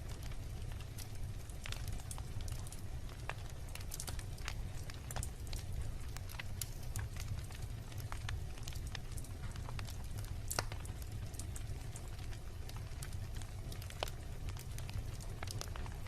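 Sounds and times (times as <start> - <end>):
fire crackling and popping: 0.0 - 16.0
low rumble of burning: 0.0 - 16.0.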